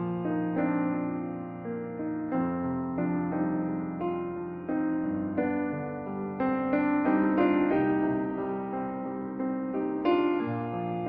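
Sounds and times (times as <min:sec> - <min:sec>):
slow soft piano chords: 0:00.0 - 0:11.0.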